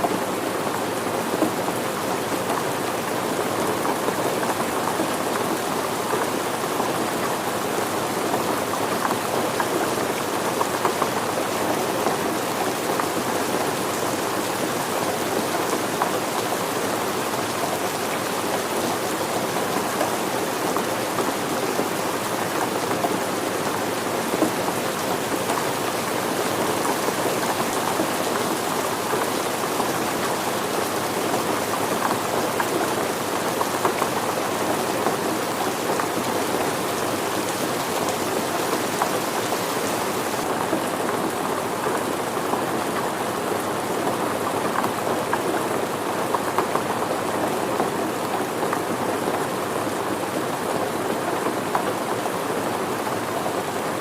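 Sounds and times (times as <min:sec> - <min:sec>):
rain falling on surfaces: 0:00.0 - 0:54.0.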